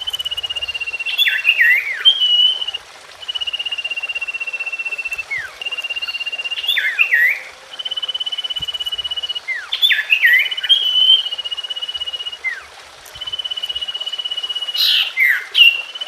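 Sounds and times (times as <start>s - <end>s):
bird whistles and chattering: 0.0s - 16.0s
fast high bird trill: 0.0s - 16.0s.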